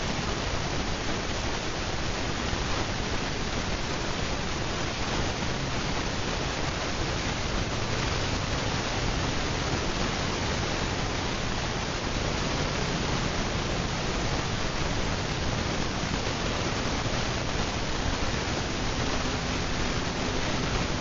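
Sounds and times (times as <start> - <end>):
ceiling fan whooshing: 0.0 - 21.0.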